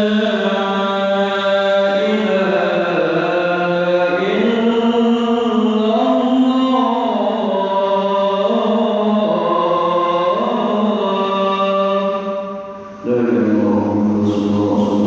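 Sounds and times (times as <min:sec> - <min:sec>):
man chanting call to prayer: 0:00.0 - 0:15.0.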